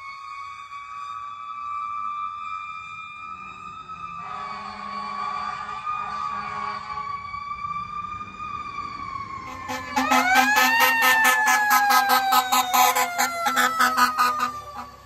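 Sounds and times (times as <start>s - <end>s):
fire engine siren wail: 0.0s - 15.0s
low steady siren tone: 0.0s - 15.0s
rapidly pulsing rising siren: 0.0s - 15.0s.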